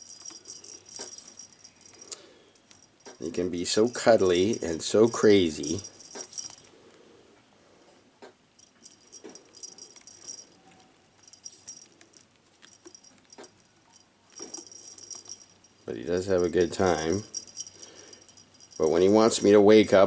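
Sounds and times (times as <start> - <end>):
small jingle bell jingling: 0.0 - 6.7, 8.6 - 20.0.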